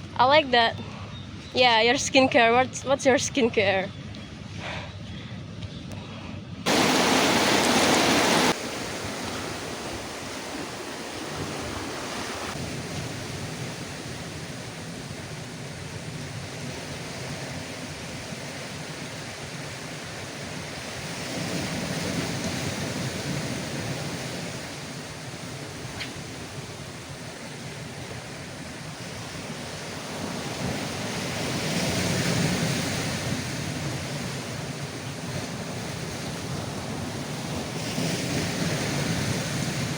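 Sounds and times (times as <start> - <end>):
wind on microphone: 0.0 - 19.5, 20.8 - 39.9
surf washing against rocks: 6.7 - 15.8, 16.5 - 39.9.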